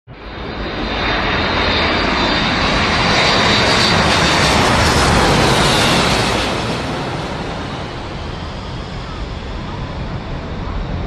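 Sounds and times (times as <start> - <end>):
jet engines passing overhead: 0.1 - 11.0.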